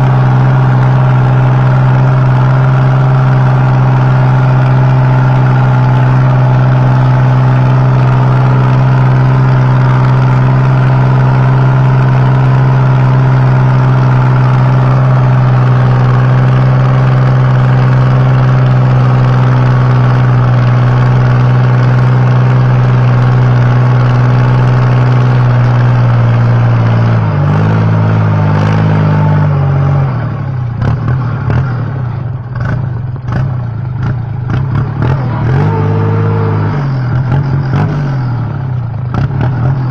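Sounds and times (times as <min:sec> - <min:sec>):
engine knocking and clatter: 0:00.0 - 0:39.9
tractor diesel engine revving: 0:00.0 - 0:39.9.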